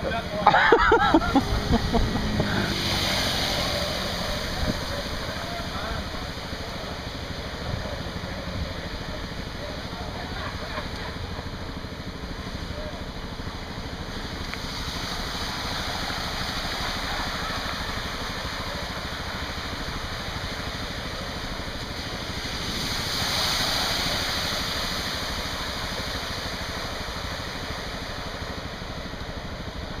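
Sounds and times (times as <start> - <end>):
moped engine running: 0.0 - 30.0
water washing and splashing: 0.5 - 30.0.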